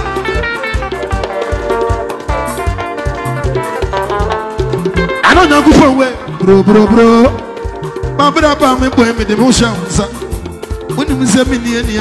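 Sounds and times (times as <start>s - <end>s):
drum kit: 0.0s - 12.0s
electric bass guitar: 0.0s - 12.0s
sustained keyboard chords: 0.0s - 12.0s.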